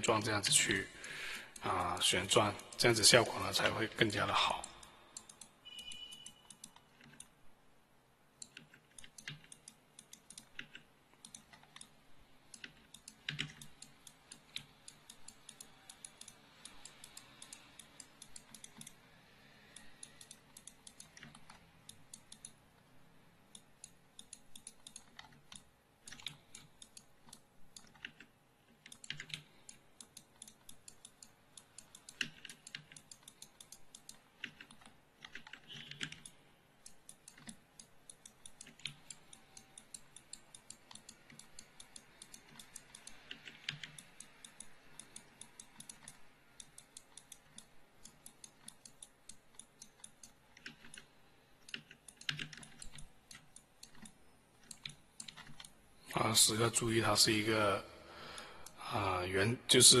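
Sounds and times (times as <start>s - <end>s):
keyboard and mouse clicking: 0.0s - 7.4s, 8.4s - 55.8s.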